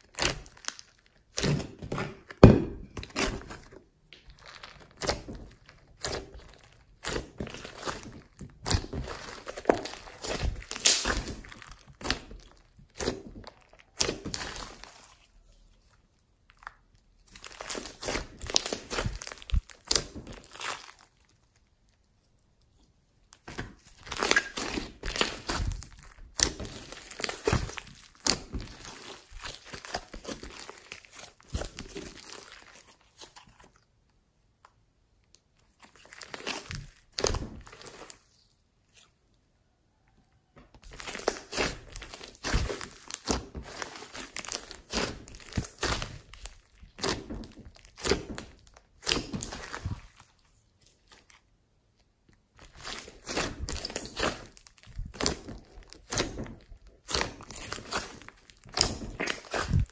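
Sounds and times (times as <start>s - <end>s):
slime squished by hand: 0.0s - 21.7s, 23.3s - 33.9s, 35.6s - 39.2s, 40.8s - 59.9s.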